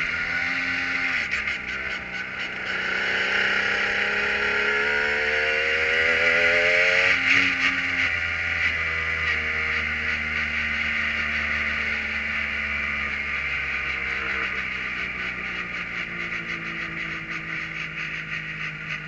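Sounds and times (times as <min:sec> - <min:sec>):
race car engine at low revs: 0:00.0 - 0:19.0.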